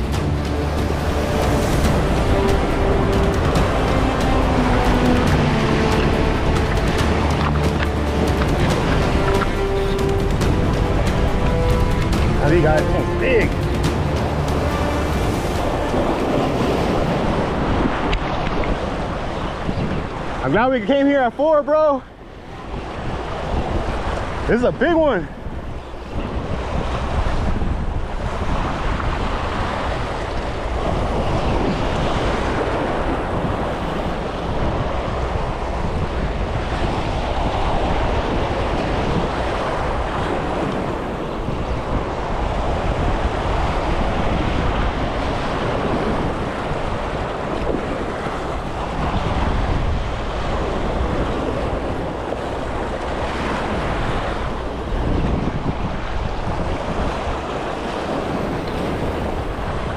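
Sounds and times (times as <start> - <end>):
surf washing against jetty: 0.0 - 59.9
wind buffeting microphone: 0.0 - 59.9.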